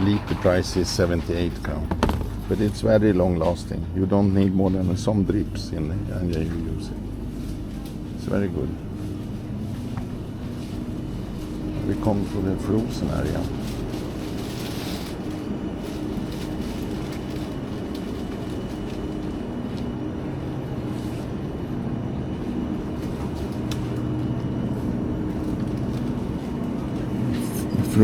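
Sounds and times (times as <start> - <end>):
freezer cabinets humming: 0.0 - 28.0.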